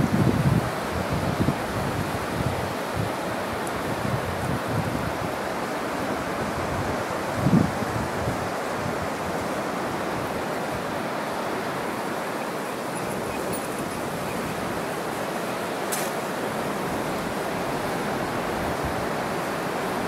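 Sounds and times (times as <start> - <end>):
mountain river rushing: 0.0 - 20.0.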